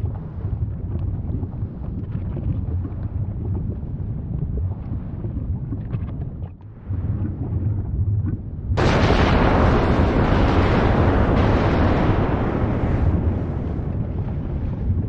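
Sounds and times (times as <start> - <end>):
deep rumble of volcanic eruption: 0.0 - 15.0
wind on microphone: 0.0 - 15.0.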